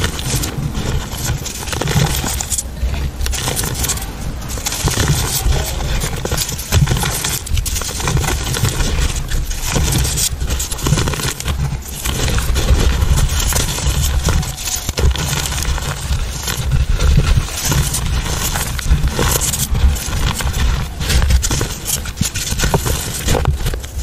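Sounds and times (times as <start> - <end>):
chalk crunching and crumbling: 0.0 - 24.0.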